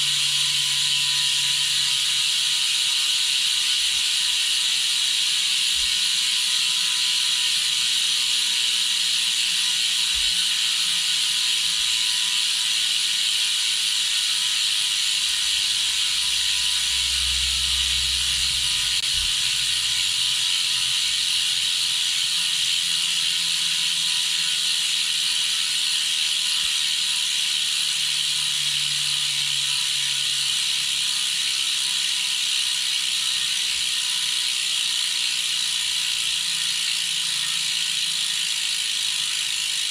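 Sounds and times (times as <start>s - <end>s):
bicycle freehub clicking buzz: 0.0s - 39.9s.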